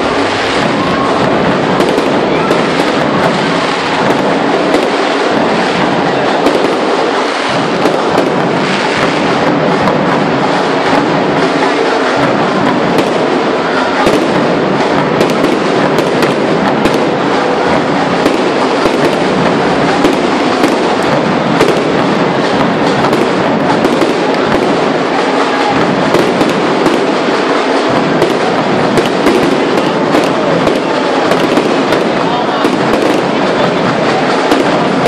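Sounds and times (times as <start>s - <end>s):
fireworks crackling and banging: 0.0s - 35.0s.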